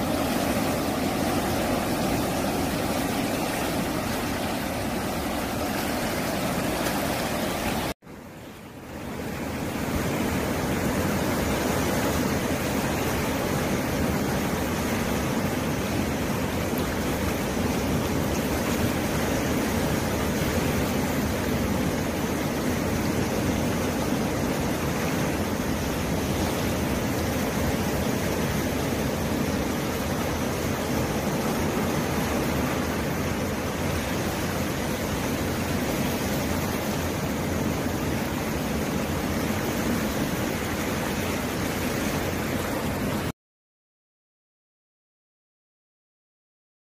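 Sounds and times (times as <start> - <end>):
surf washing over rocks: 0.0 - 43.3.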